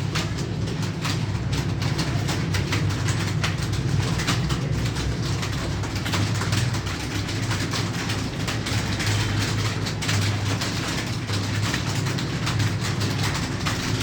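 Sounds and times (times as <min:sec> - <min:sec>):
keyboards typing: 0:00.0 - 0:14.0.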